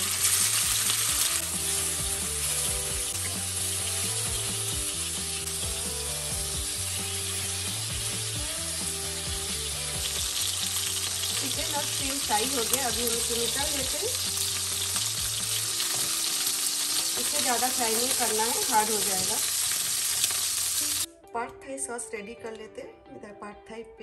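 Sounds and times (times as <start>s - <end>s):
meat and shrimp sizzling in oil: 0.0s - 21.1s.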